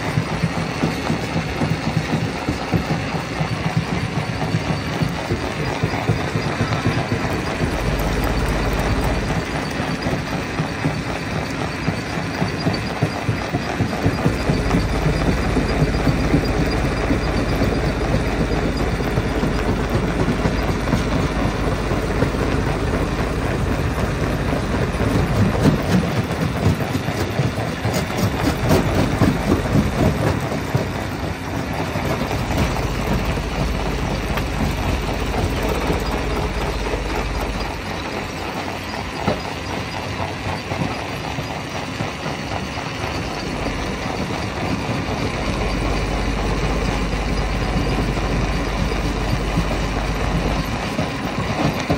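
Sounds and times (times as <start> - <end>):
rock crusher running: 0.0 - 51.9.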